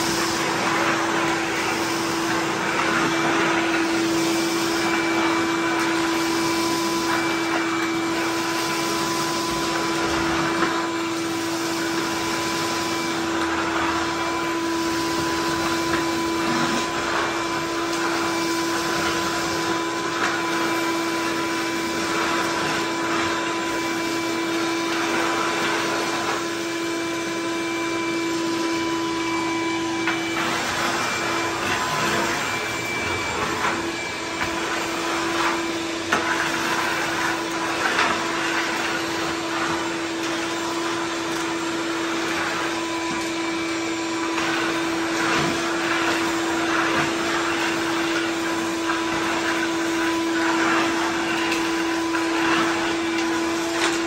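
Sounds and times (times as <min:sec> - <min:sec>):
debris clattering in vacuum hose: 0:00.0 - 0:26.7, 0:29.0 - 0:54.0
shop vacuum running: 0:00.0 - 0:54.0.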